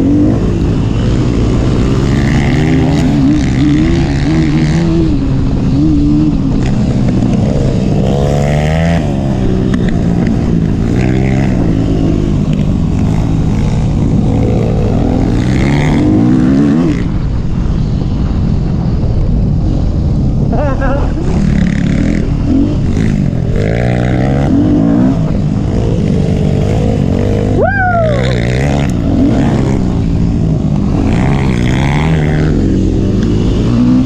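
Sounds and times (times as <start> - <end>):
dirt bike engine revving: 0.0 - 17.4, 20.5 - 34.0.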